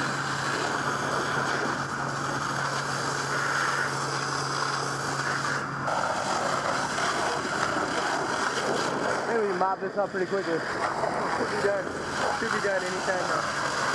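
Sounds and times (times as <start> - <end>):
hose water spraying: 0.0 - 13.9.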